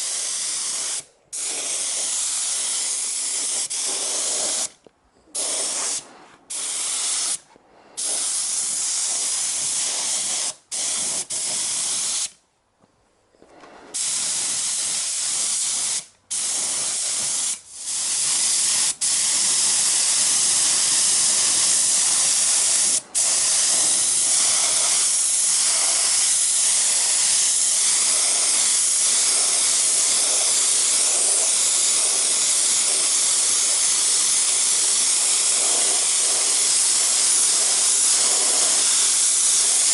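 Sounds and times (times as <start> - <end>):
paint spray gun hissing: 0.0 - 4.8, 5.4 - 7.4, 8.0 - 12.4, 13.8 - 39.9.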